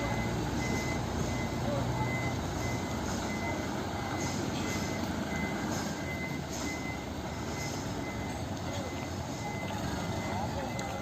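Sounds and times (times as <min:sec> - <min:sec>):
diesel truck engine rumble: 0:00.0 - 0:11.0
truck warning beeper: 0:00.0 - 0:11.0.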